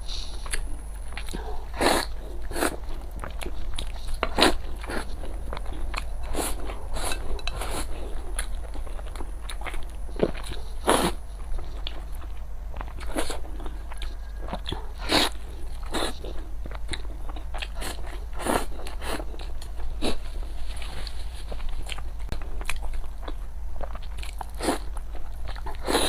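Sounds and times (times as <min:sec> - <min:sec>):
steady low hum: 0:00.0 - 0:26.0
crunchy food being chewed: 0:00.2 - 0:26.0.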